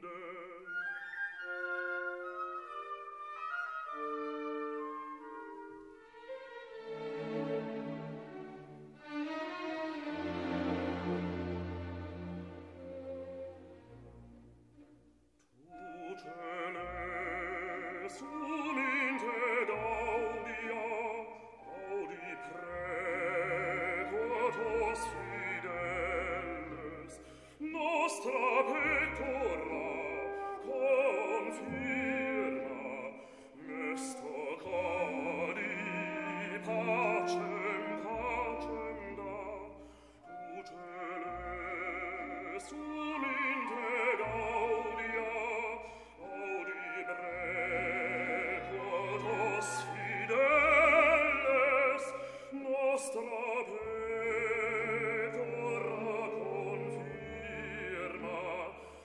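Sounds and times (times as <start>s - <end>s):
orchestral accompaniment: 0.6s - 59.0s.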